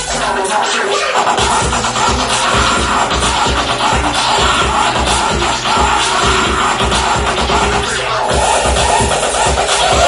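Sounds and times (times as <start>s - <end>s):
electronic music with bass beat: 0.0s - 10.0s.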